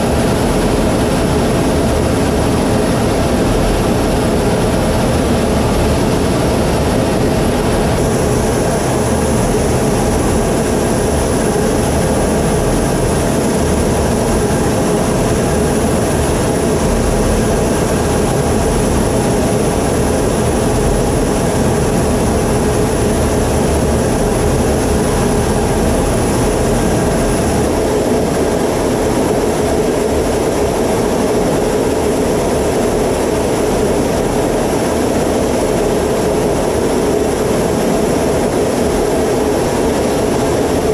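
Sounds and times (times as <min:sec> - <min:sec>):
constant high whine: 0:00.0 - 0:40.9
jet engine and airflow noise: 0:00.0 - 0:40.9.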